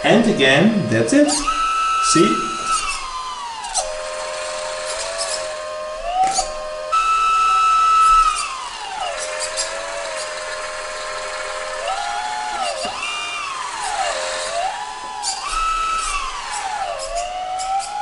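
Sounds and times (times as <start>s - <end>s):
hydraulic pump motor whining: 0.0s - 18.0s.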